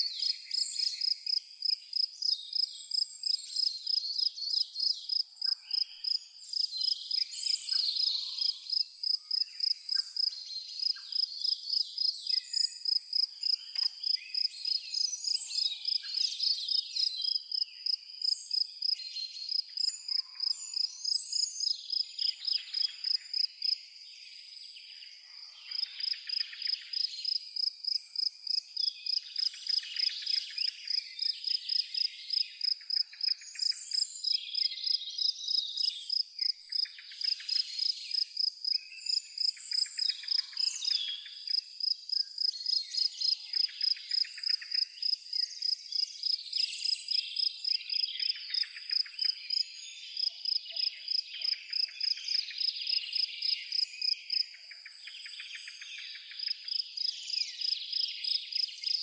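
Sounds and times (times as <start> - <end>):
cricket chirping: 0.0 - 24.8, 25.7 - 59.0
songbirds warbling and trilling: 0.0 - 59.0.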